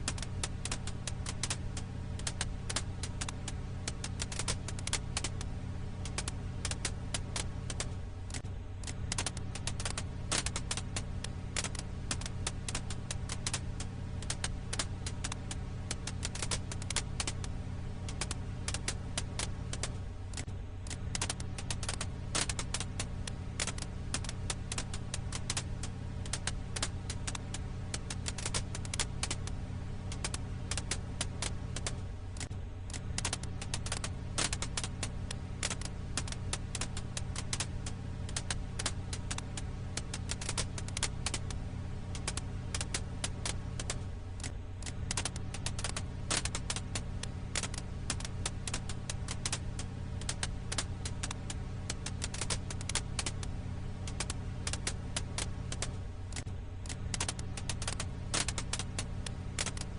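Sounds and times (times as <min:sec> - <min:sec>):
firewood crackling and popping: 0:00.0 - 0:59.9
low fire rumble: 0:00.0 - 0:59.9.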